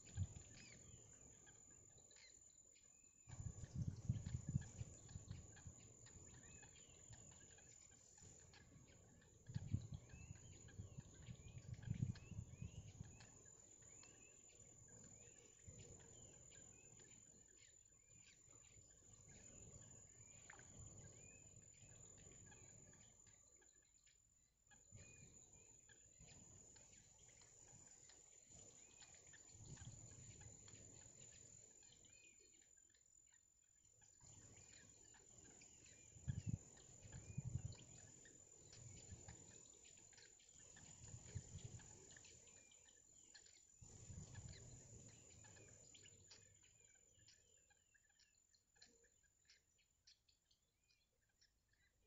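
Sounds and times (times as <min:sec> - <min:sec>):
birds chirping: 0:00.0 - 0:33.1, 0:33.8 - 0:51.0.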